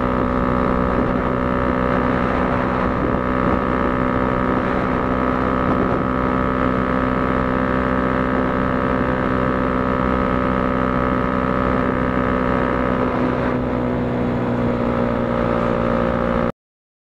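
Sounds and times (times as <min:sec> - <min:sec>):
motorcycle engine at high revs: 0:00.0 - 0:16.5.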